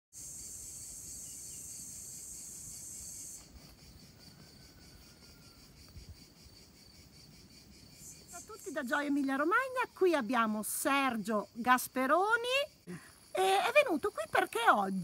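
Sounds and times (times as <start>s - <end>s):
crickets chirping: 0.1s - 15.0s.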